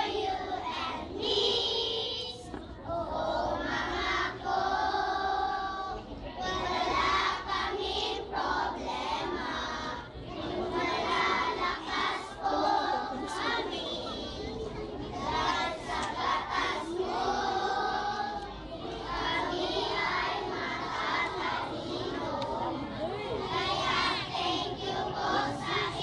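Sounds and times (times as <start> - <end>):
children singing and shouting: 0.0 - 26.0.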